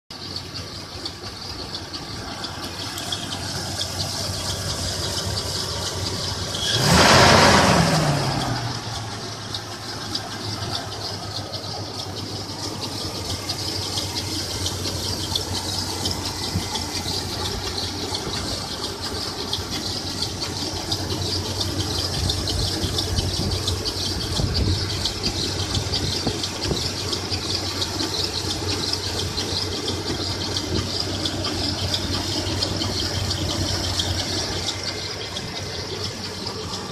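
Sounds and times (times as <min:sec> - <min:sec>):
car engine idling and revving: 0:00.1 - 0:36.9
high-pitched engine squeal: 0:00.3 - 0:36.9.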